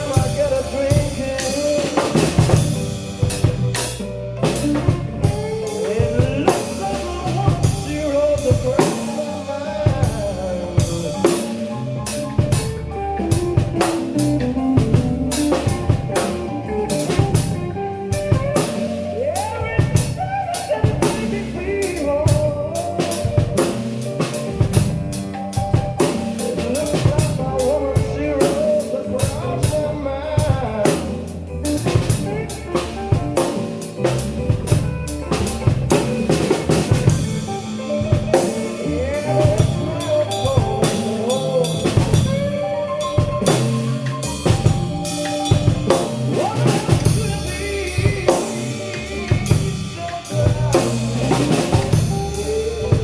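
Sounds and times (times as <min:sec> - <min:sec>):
bending melodic instrumental lines: 0:00.0 - 0:53.0
drum kit beat: 0:00.0 - 0:53.0.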